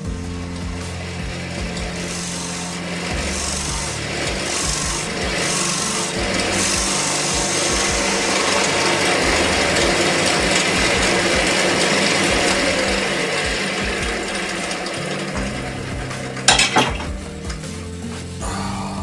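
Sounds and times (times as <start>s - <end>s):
lathe motor hum: 0.0s - 18.4s
tool scraping spinning wood: 0.0s - 18.4s.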